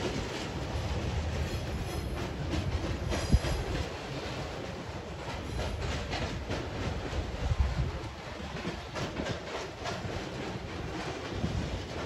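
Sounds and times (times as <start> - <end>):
freight train rumbling: 0.0 - 12.0
wheel clacks over rail joints: 0.0 - 12.0.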